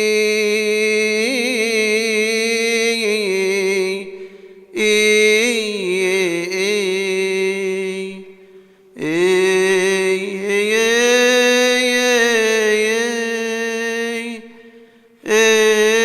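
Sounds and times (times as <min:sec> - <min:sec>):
man chanting a hymn: 0:00.0 - 0:16.0.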